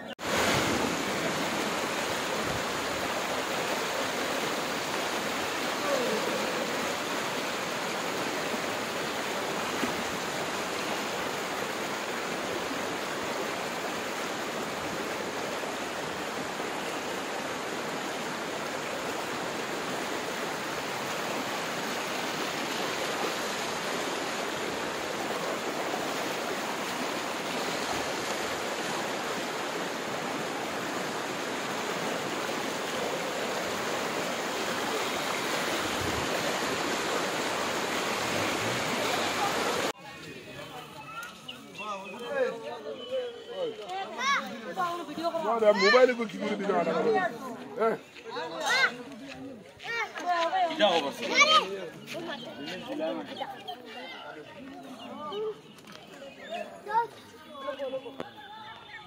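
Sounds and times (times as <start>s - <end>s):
floodwater rushing: 0.0s - 52.6s.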